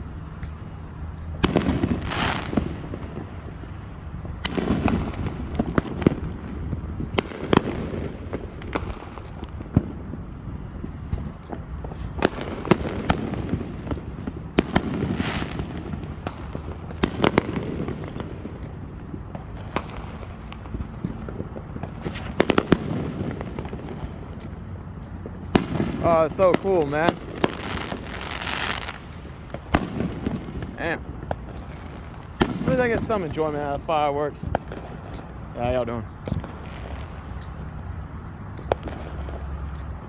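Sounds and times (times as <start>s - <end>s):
fireworks bangs and pops: 0.0s - 40.0s
low rumble of bursts: 0.0s - 40.0s.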